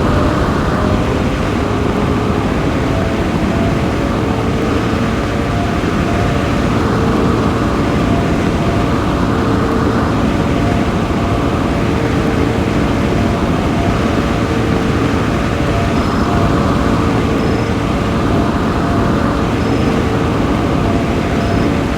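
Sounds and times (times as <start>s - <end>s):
car engine: 0.0s - 21.9s
faint tones: 0.0s - 21.9s
road noise: 0.0s - 21.9s.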